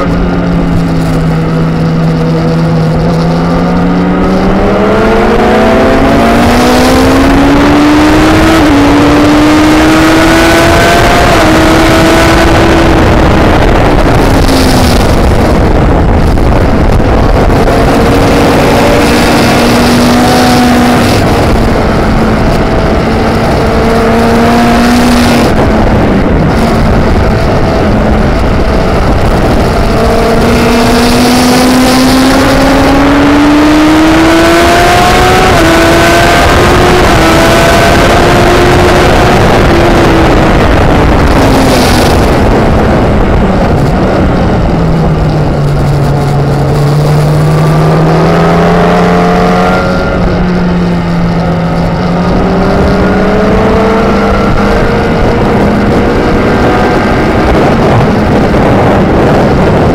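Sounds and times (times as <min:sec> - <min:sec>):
motorcycle engine running hard: 0:00.0 - 0:59.9
wind rush on microphone: 0:00.0 - 0:59.9.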